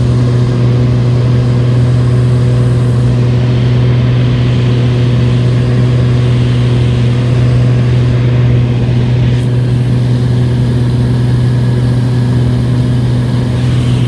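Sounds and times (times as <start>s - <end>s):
light aircraft engine droning: 0.0s - 14.0s.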